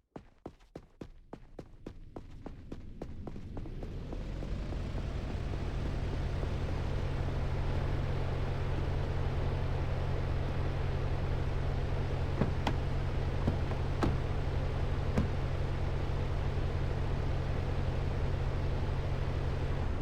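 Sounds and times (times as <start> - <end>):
low mechanical hum: 2.0 - 20.0.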